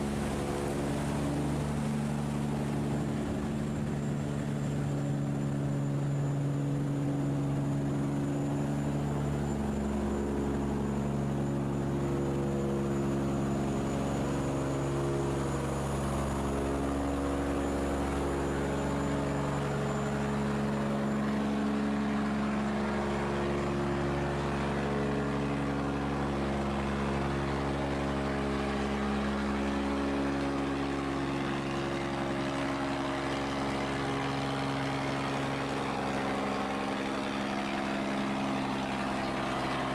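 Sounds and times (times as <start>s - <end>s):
ship engine droning: 0.0s - 39.9s.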